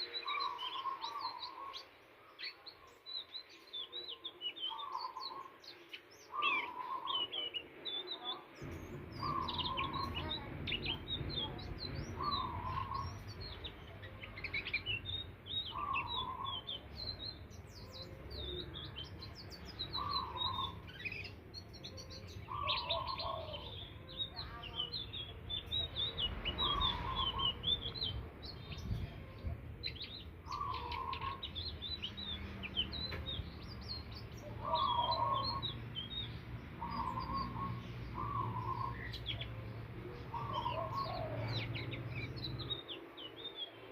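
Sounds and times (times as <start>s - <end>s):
bird twittering chirps: 0.0s - 39.6s.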